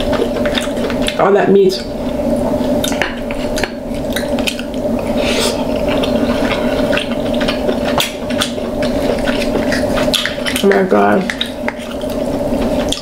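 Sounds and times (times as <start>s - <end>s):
wet chewing and lip-smacking: 0.0s - 1.2s, 2.0s - 13.0s
steady low hum: 0.0s - 13.0s.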